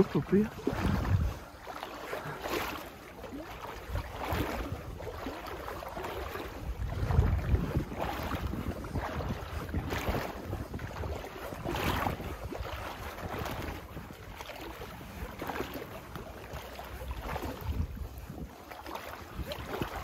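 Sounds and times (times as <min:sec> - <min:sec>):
wind buffeting microphone: 0:00.0 - 0:01.7, 0:03.8 - 0:20.0
wading through water: 0:00.0 - 0:20.0.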